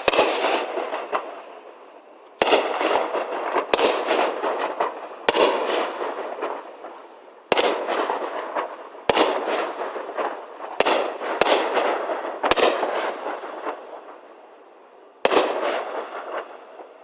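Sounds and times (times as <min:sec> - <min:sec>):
fireworks bursting with echo: 0:00.0 - 0:14.6, 0:15.2 - 0:17.0.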